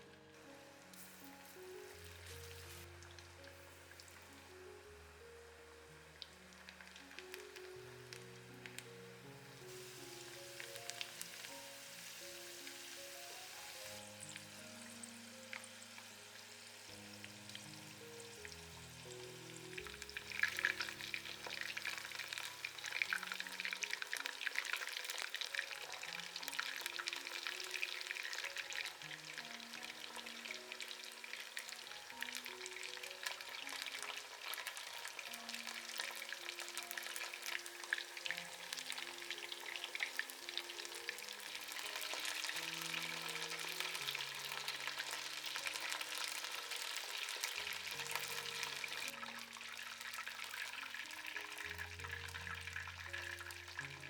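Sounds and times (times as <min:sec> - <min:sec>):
chicken deep-frying in oil: 0:00.0 - 0:54.0.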